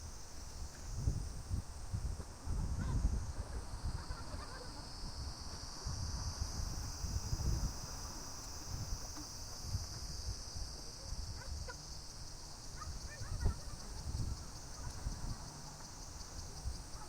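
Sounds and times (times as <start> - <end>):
wind buffeting microphone: 0.4 - 11.7, 12.7 - 17.0.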